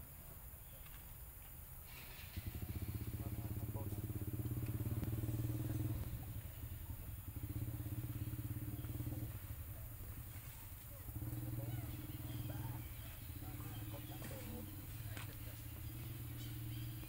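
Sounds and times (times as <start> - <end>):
small engine running: 1.8 - 17.0.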